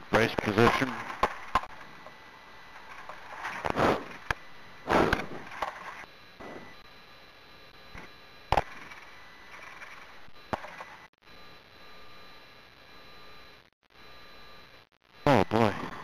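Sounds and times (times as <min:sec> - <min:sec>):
faint electronic whine: 0:00.0 - 0:16.0.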